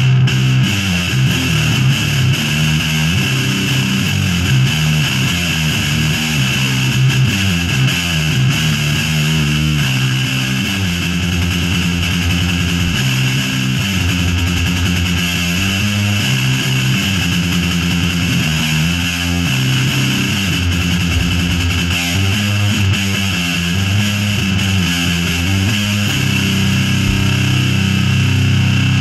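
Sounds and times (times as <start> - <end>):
electric guitar playing low notes: 0.0 - 29.0.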